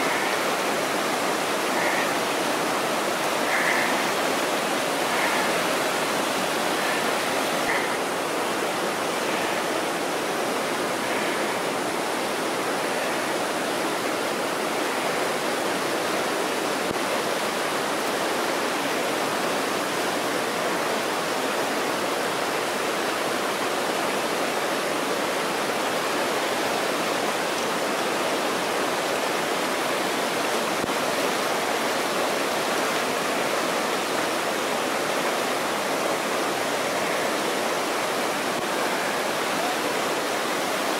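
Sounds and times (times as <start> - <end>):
whitewater rapids roaring: 0.0 - 40.9.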